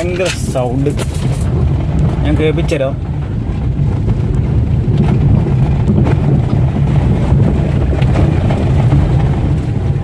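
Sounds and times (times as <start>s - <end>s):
car suspension knocking and rattling: 0.0s - 10.0s
road and tyre rumble: 0.0s - 10.0s.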